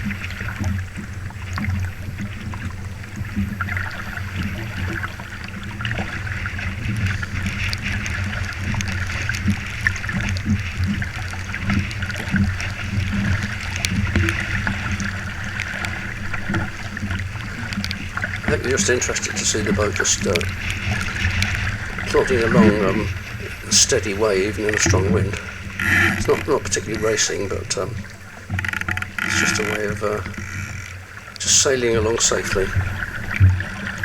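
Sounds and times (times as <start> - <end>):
water splashing along a boat hull: 0.0 - 34.0.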